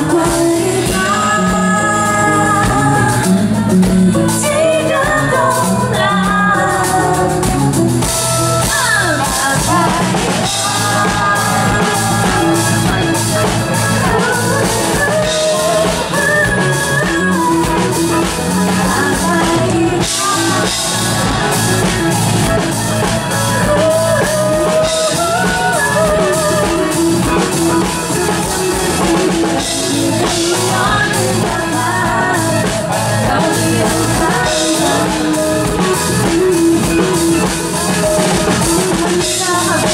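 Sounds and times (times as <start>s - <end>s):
drum kit playing a steady beat: 0.0s - 39.9s
guitar: 0.0s - 39.9s
keyboard: 0.0s - 39.9s
woman singing: 0.0s - 39.9s.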